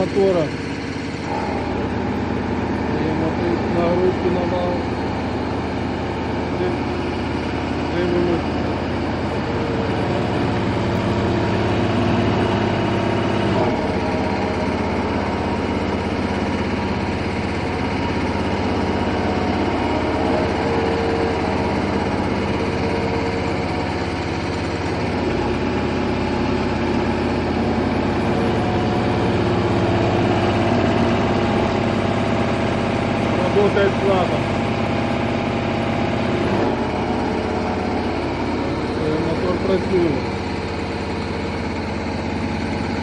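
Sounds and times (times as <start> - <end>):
hydraulic motor hum and whine: 0.0 - 43.0.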